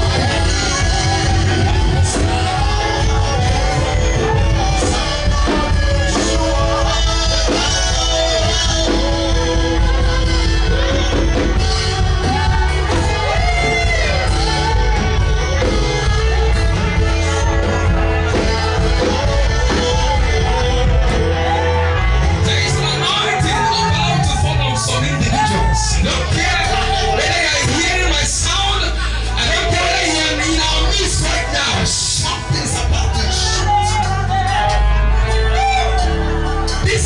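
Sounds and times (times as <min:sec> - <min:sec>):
heavy bass: 0:00.0 - 0:37.0
held keyboard chords: 0:00.0 - 0:37.0
person singing gospel: 0:00.0 - 0:37.0.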